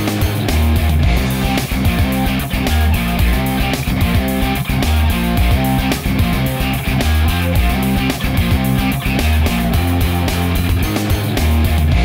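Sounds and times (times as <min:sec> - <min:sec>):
rock music with guitar and bass: 0:00.0 - 0:12.0.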